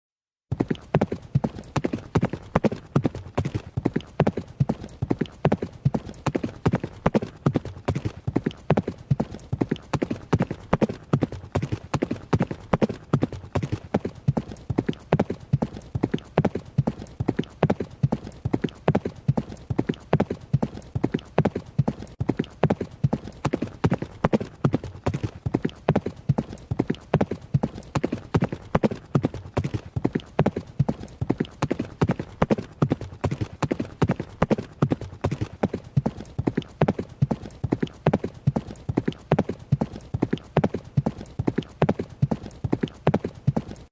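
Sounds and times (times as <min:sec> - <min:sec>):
horse hoofbeats at a run: 0:00.5 - 0:43.9.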